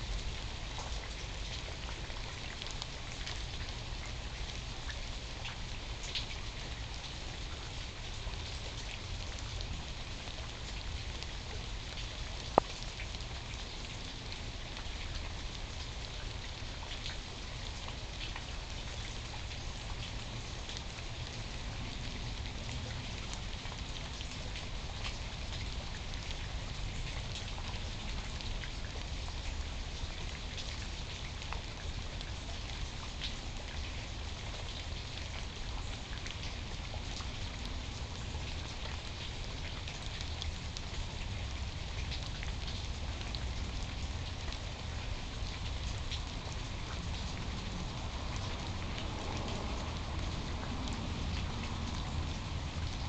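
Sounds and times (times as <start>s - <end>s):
low steady rumble: 0.0s - 53.0s
rain drops ticking: 0.0s - 53.0s.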